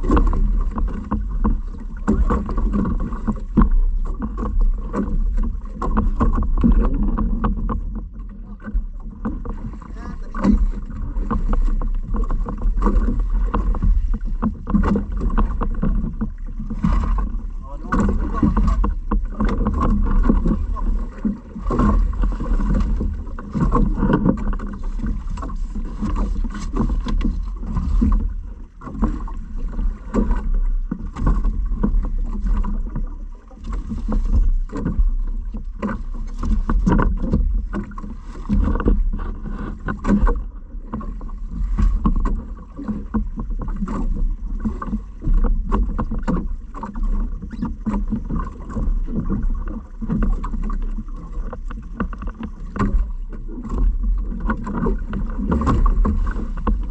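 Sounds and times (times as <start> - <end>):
low steady rumble: 0.0 - 56.9
water splashing against hull: 0.0 - 56.9.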